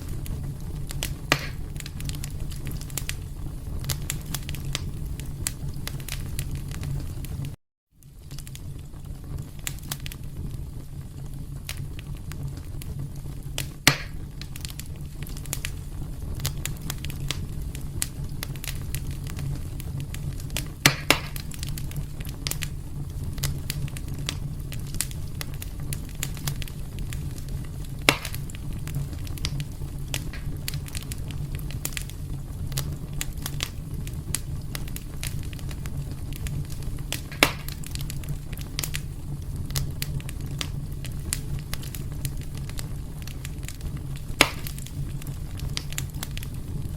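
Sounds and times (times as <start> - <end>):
sharp pops of fire: 0.0 - 46.9
wood fire crackling: 0.0 - 46.9.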